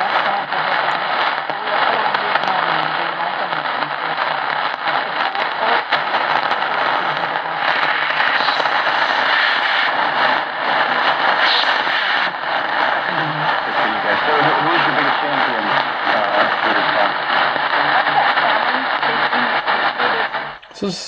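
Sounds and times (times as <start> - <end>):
radio static hiss and crackle: 0.0 - 21.0.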